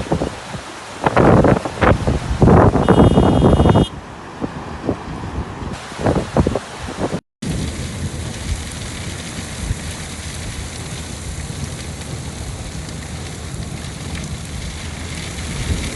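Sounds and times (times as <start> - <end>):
heavy rain falling: 0.0 - 3.8, 5.8 - 15.9.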